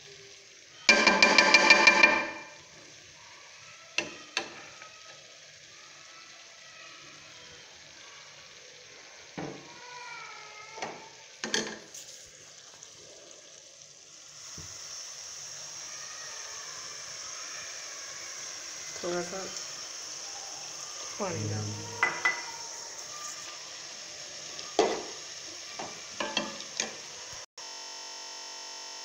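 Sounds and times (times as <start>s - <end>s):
meat sizzling in a pot: 0.0s - 29.0s.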